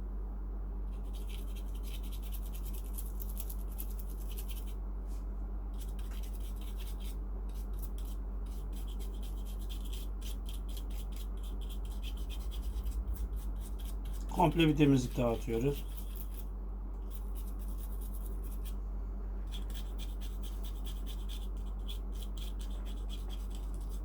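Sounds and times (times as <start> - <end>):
low electrical hum: 0.0 - 24.0
brush scrubbing circuit board: 1.0 - 4.7, 5.8 - 18.8, 19.5 - 24.0.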